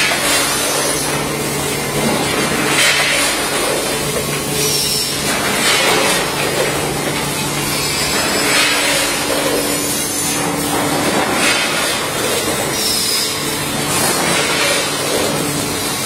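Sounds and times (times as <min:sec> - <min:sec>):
packaging machine running: 0:00.0 - 0:16.0.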